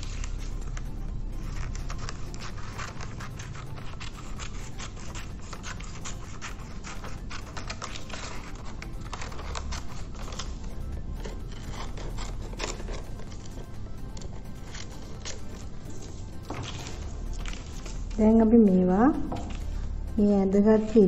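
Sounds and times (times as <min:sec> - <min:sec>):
scissors snipping paper: 0:00.0 - 0:18.2.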